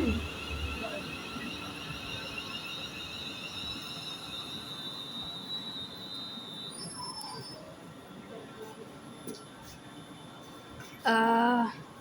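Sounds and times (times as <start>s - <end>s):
electric train high-pitched whine: 0.0s - 10.3s
low train rumble: 0.0s - 12.0s.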